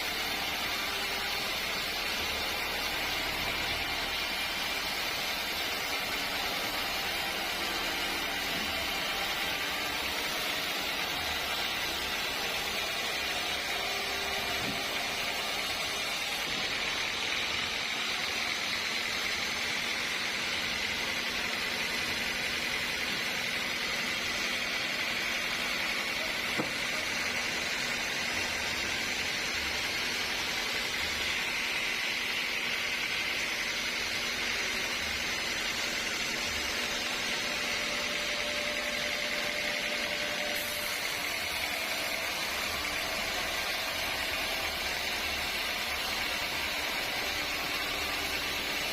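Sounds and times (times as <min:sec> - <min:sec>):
sawmill machinery whirring: 0:00.0 - 0:48.9.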